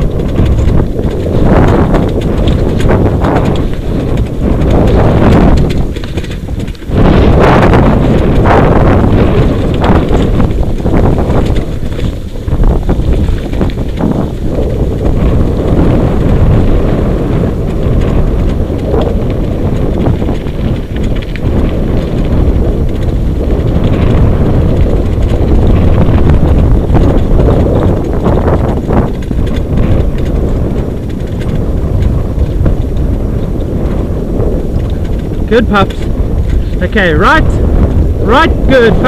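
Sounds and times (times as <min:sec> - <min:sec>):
rig rolling on dirt trail: 0:00.0 - 0:39.0
wind buffeting microphone: 0:00.0 - 0:39.0.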